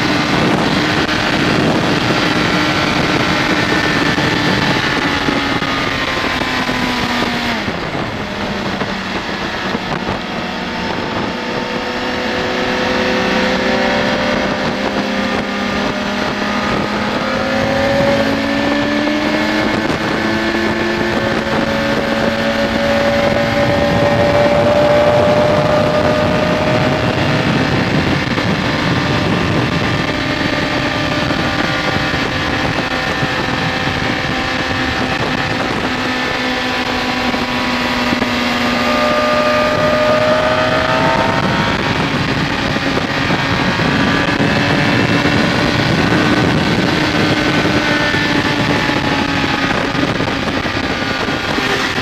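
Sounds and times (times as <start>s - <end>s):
motorcycle engine running: 0.0s - 52.0s
wind noise: 0.0s - 52.0s.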